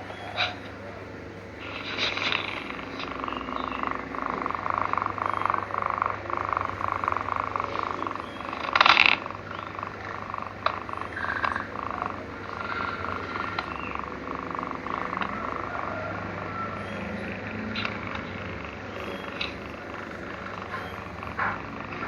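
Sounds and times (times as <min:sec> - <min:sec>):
kitten snoring: 0:00.0 - 0:22.0.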